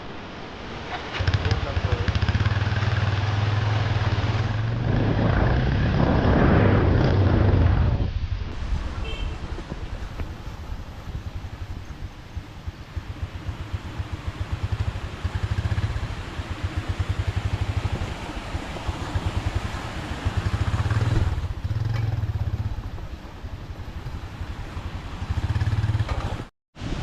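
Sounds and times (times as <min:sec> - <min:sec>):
rushing noise: 0:00.0 - 0:21.9.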